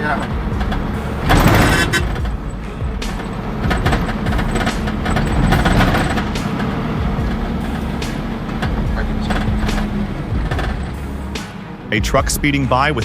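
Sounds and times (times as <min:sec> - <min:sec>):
knocks and clanks: 0:00.0 - 0:12.6
heavy vehicle engine running: 0:00.0 - 0:13.0.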